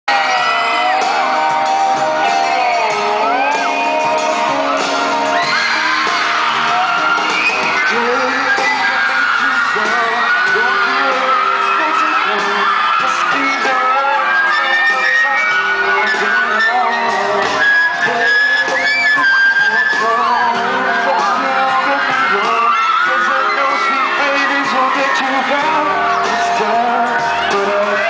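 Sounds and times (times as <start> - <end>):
crowd screaming and cheering: 0.0 - 28.0
live pop music: 0.1 - 28.0
man singing into microphone: 0.1 - 28.0.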